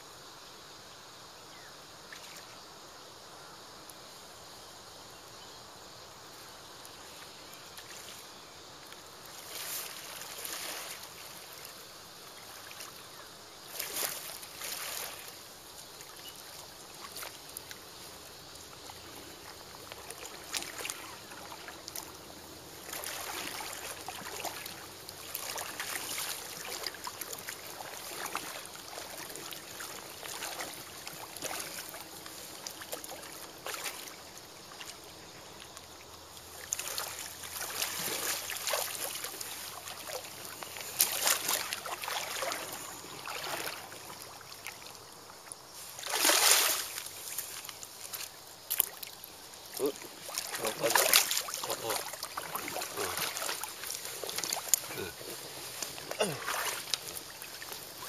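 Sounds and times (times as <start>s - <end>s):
river water splashing: 1.8s - 58.0s.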